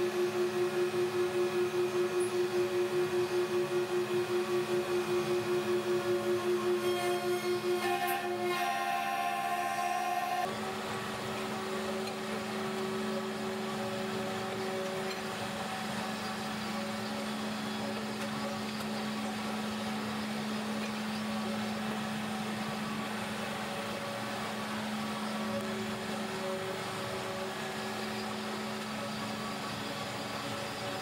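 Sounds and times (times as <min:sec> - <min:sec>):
workshop machinery humming: 0:00.0 - 0:31.0.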